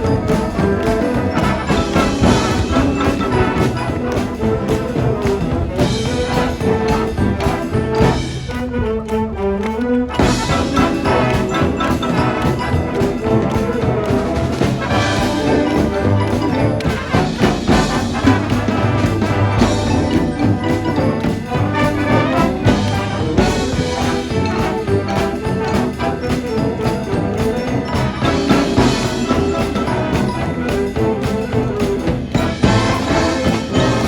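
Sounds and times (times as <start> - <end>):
brass instruments playing: 0.0 - 34.0
marching drums and percussion: 0.0 - 34.0.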